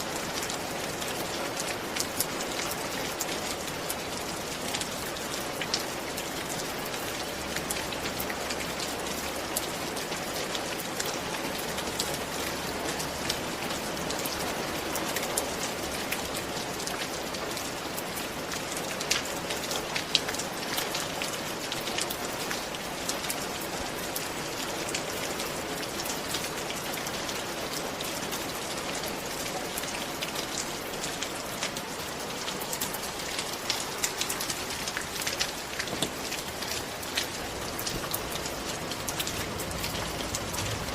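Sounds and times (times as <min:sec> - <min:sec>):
raindrops pattering close by: 0:00.0 - 0:40.9
steady rain: 0:00.0 - 0:40.9.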